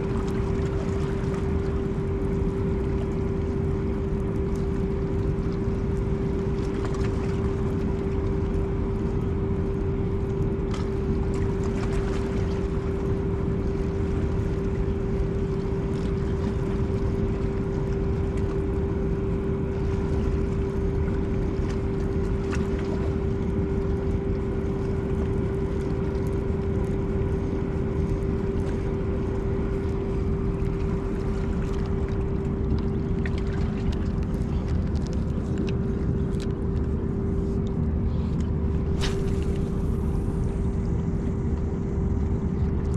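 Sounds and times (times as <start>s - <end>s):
steady engine hum: 0.0s - 42.9s
wind rumble on microphone: 0.0s - 42.9s.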